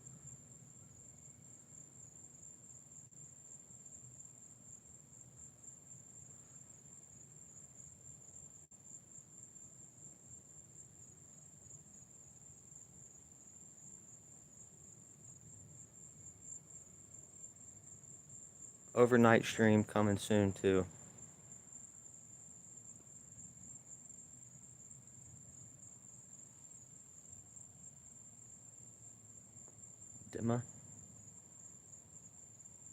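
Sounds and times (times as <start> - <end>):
crickets trilling: 0.0 - 32.9.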